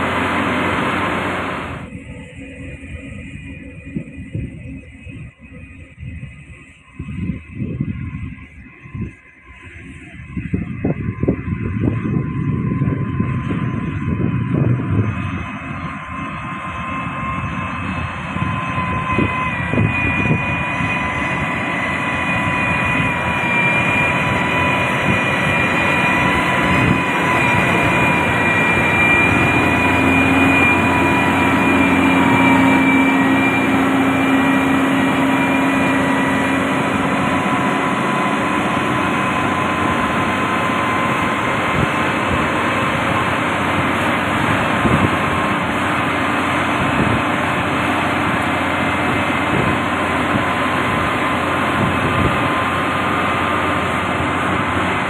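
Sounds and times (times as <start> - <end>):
diesel machinery running: 0.0 - 55.0
high steady whine: 0.0 - 55.0.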